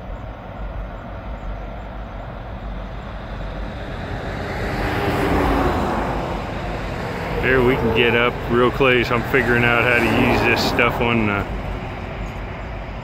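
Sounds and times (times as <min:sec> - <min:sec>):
steady low rumble: 0:00.0 - 0:13.0
vehicle passing by: 0:02.4 - 0:13.0.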